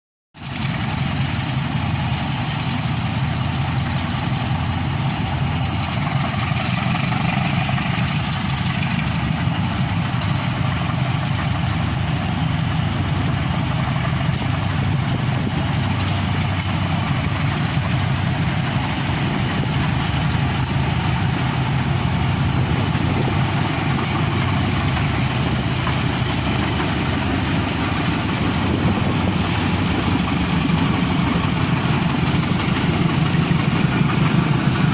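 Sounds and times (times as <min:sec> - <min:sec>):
diesel locomotive engines droning: 0:00.4 - 0:34.9
hiss: 0:00.4 - 0:34.9.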